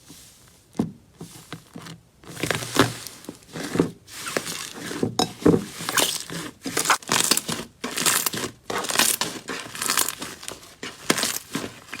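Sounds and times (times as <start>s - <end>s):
slime squishing by hand: 2.3s - 12.0s.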